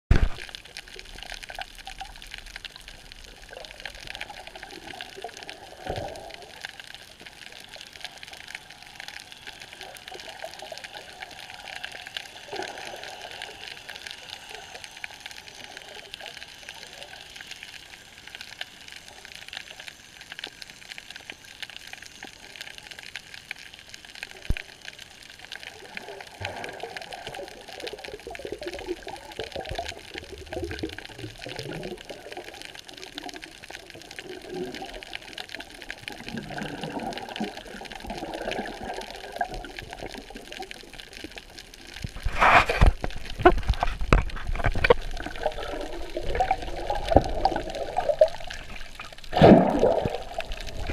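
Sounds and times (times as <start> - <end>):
bubbling and rushing water: 0.1 - 50.9
crackle of fine underwater clicks: 0.1 - 50.9.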